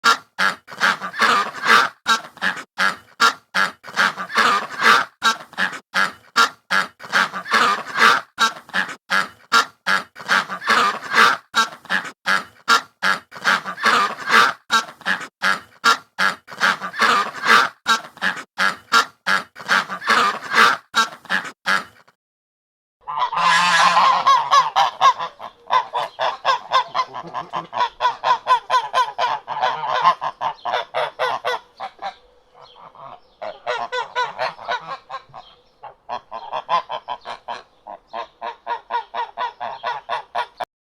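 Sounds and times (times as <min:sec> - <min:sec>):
ducks quacking: 0:00.0 - 0:22.2, 0:23.0 - 0:40.7.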